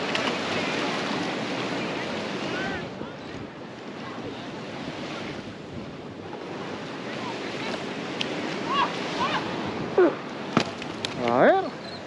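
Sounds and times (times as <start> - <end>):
ocean surf washing: 0.0 - 12.0
wind on microphone: 0.0 - 12.0.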